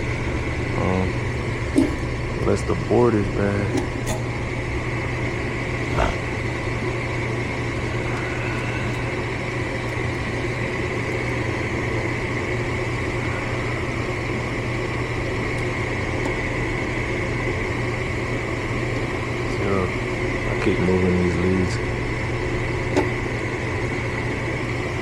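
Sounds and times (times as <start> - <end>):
furnace motor humming: 0.0 - 25.0
high whine: 0.0 - 25.0.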